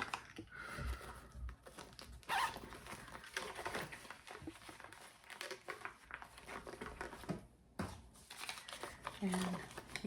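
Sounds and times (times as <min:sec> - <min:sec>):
light clicks and rustles of packaging: 0:00.0 - 0:10.0.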